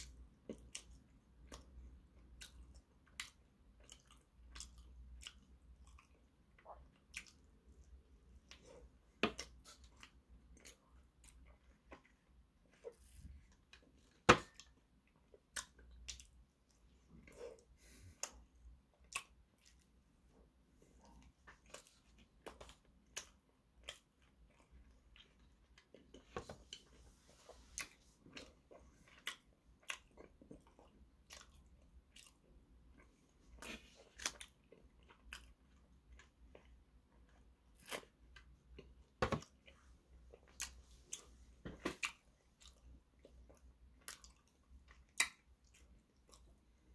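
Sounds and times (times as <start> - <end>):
chewing soft bun: 0.0 - 46.9.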